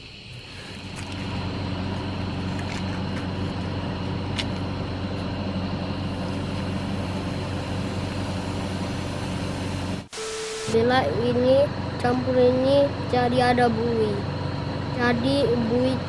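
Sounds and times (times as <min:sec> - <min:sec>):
low motor hum: 0:00.4 - 0:10.1, 0:10.7 - 0:16.0.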